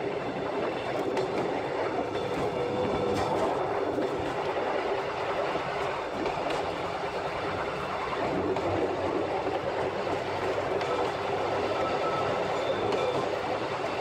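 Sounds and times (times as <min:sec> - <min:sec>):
train wheels on track: 0:00.0 - 0:14.0.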